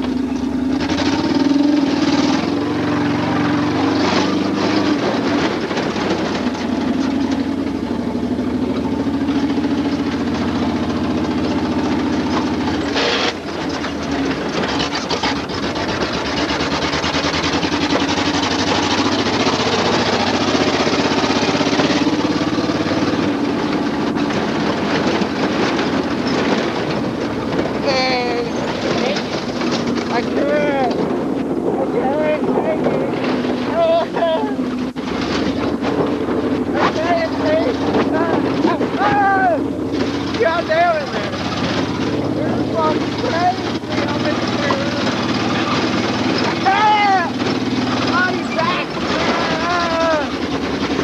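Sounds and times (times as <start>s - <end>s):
loud exhaust drone: 0.0s - 51.0s.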